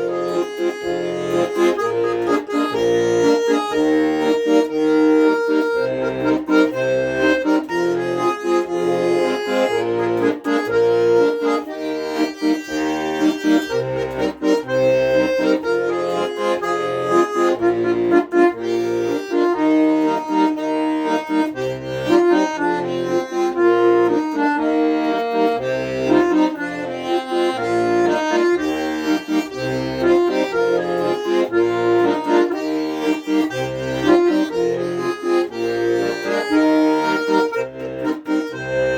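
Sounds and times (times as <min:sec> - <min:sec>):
accordion playing: 0:00.0 - 0:38.9.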